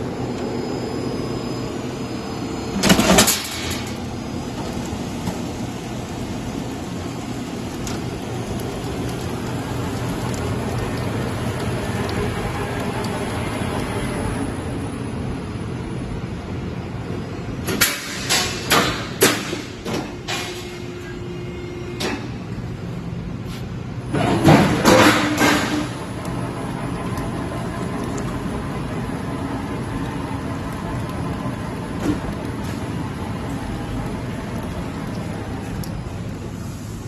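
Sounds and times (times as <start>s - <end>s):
roll forming machine rumbling: 0.0s - 37.0s.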